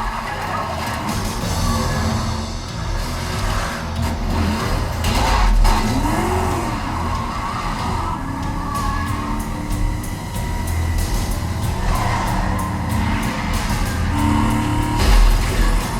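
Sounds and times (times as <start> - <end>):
car engine: 0.0 - 15.9
film music: 0.0 - 15.9
heavy subwoofer bass: 0.0 - 15.9
sudden impacts: 0.0 - 15.9
tires screeching: 0.0 - 15.9.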